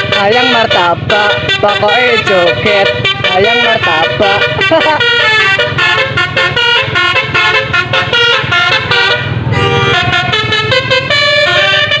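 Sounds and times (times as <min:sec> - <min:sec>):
musical bus air horn: 0:00.0 - 0:12.0.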